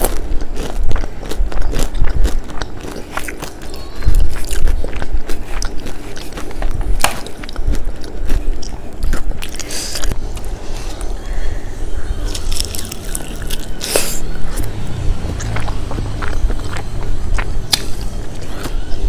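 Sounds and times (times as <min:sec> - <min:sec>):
person chewing crispy chicken: 0:00.0 - 0:11.1, 0:12.2 - 0:19.0.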